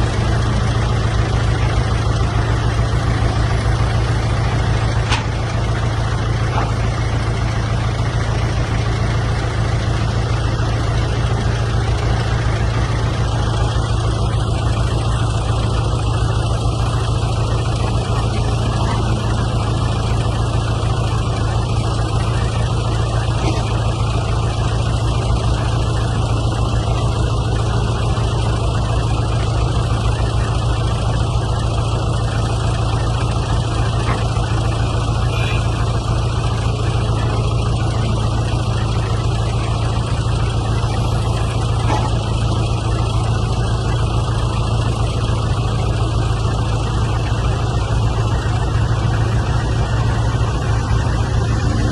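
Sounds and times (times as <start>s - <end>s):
diesel engine droning: 0.0s - 51.9s.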